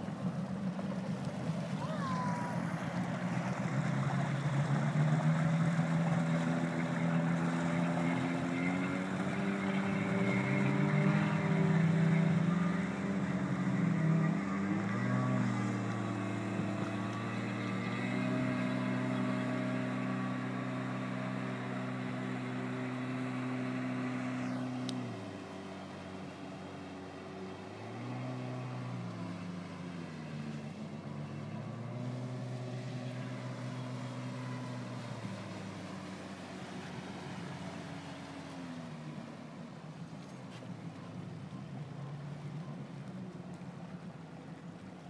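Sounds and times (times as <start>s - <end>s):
water and wind noise: 0.0s - 45.0s
watercraft engines running: 0.0s - 45.0s.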